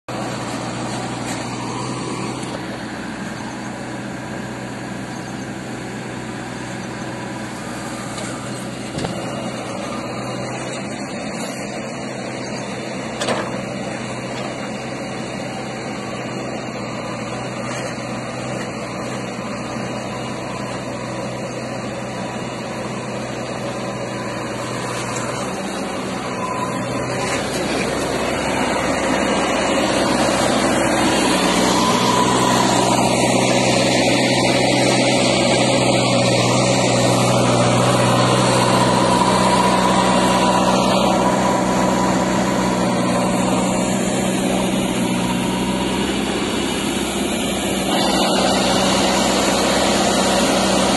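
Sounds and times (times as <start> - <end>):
diesel engine under load: 0.0 - 50.9
backhoe digging soil: 0.1 - 50.9.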